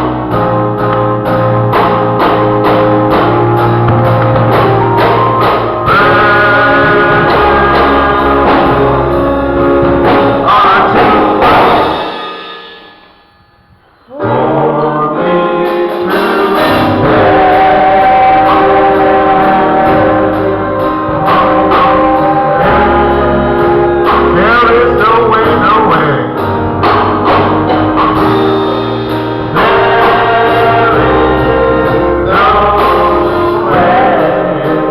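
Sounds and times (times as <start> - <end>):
gospel music with singing: 0.0 - 34.9.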